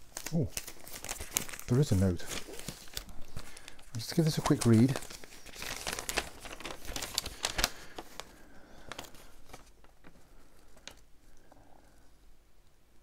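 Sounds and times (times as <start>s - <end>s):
paper and cardboard crinkling: 0.0s - 11.6s.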